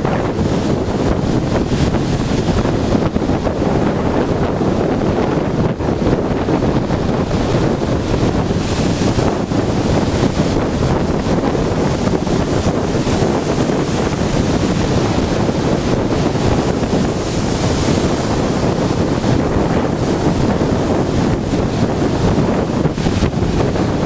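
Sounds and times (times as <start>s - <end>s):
storm waves breaking: 0.0s - 24.0s
wind buffeting microphone: 0.0s - 24.0s.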